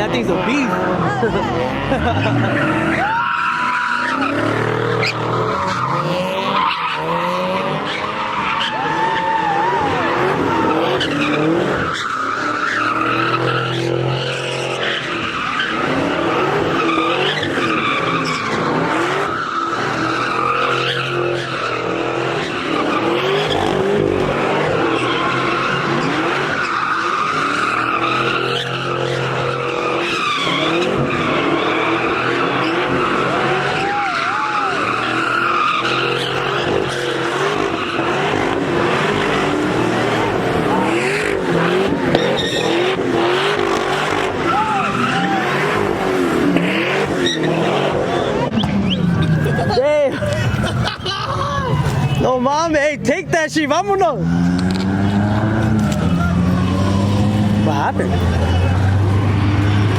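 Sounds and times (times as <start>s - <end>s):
car engines revving: 0.0s - 59.9s
car tires screeching: 0.0s - 59.9s.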